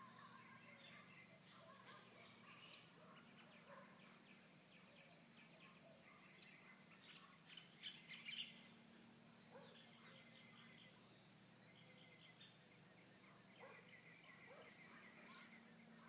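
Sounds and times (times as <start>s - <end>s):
faint bird chirps: 0.0s - 16.0s
low steady hum: 0.0s - 16.0s.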